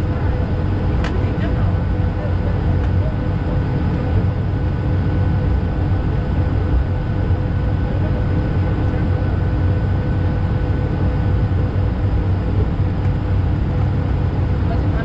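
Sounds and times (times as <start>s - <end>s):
faint jet engine hums: 0.0s - 15.0s
low rumble of taxiing plane: 0.0s - 15.0s.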